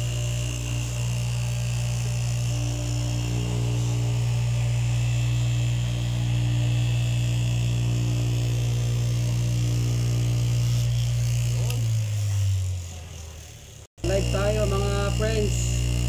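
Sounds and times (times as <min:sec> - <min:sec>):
fabric cutting machine humming: 0:00.0 - 0:16.0.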